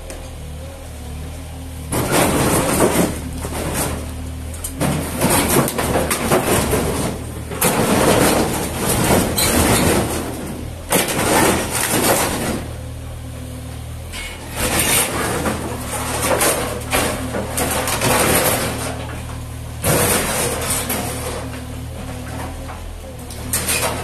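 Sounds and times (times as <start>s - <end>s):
excavator diesel engine running: 0.0s - 24.0s
bucket crunching and scraping rubble: 1.9s - 12.8s, 14.2s - 22.6s, 23.5s - 24.0s.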